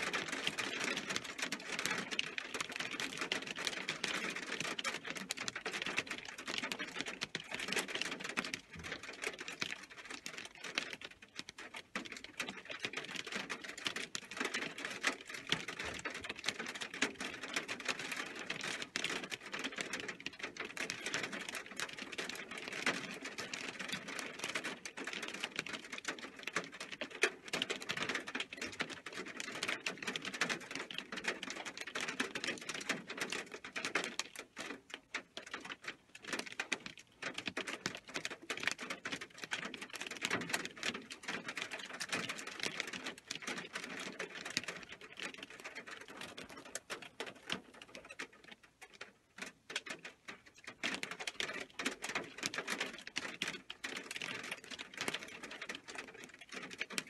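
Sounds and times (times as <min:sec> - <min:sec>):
hailstones pattering: 0:00.0 - 0:57.0.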